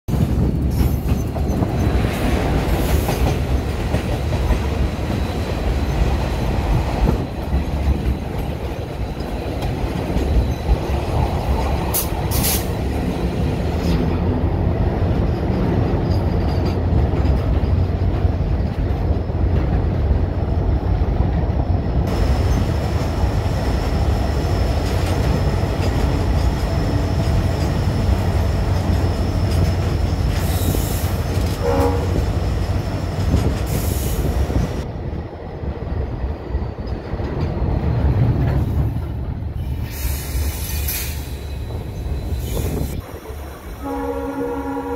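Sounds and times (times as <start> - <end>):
freight train rumbling and rattling: 0.0 - 44.9
train wheel squeal: 0.6 - 14.2, 15.1 - 19.6, 22.0 - 34.8, 36.4 - 44.9.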